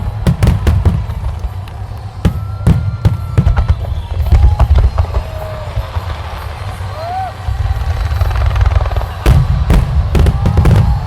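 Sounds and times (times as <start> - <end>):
fireworks booming: 0.0 - 11.0
fireworks cracking: 0.0 - 11.0.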